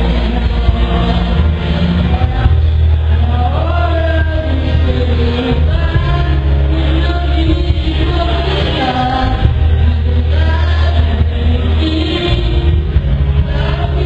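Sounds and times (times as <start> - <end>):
backing track with heavy bass: 0.0 - 14.0
boy singing into a microphone: 0.0 - 14.0.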